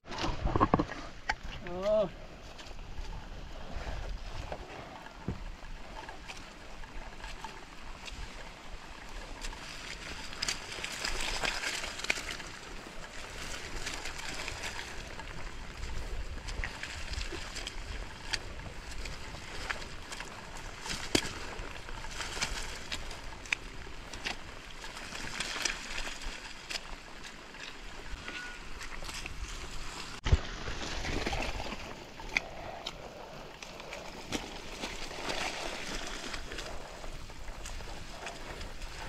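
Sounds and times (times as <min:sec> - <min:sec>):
water running and sloshing: 0:00.0 - 0:39.0.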